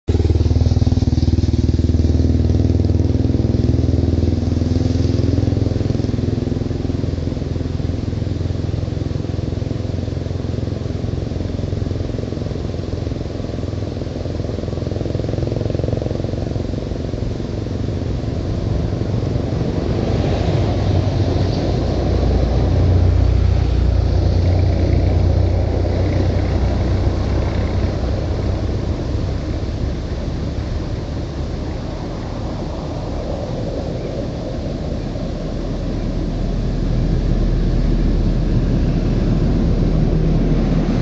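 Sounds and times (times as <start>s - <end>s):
vehicle engine rumble: 0.0s - 41.0s.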